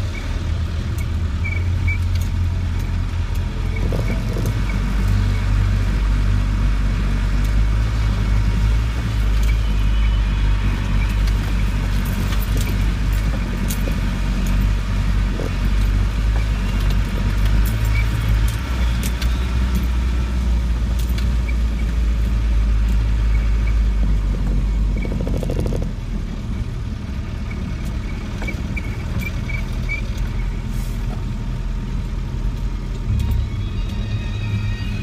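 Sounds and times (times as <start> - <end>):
diesel engine drone from inside cab: 0.0 - 35.0.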